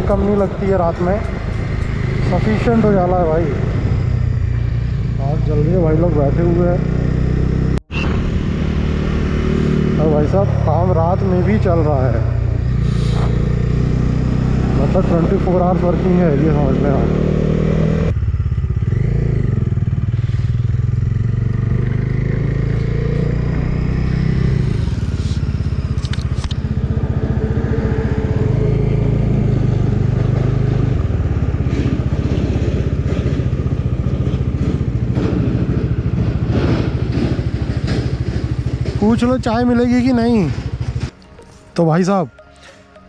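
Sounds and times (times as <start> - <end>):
motorcycle engine running: 0.0 - 41.5.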